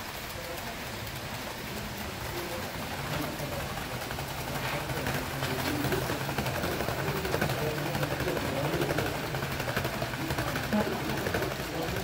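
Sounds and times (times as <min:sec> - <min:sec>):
model train rolling on track: 0:00.0 - 0:12.0
wheels ticking over rail joints: 0:00.0 - 0:12.0.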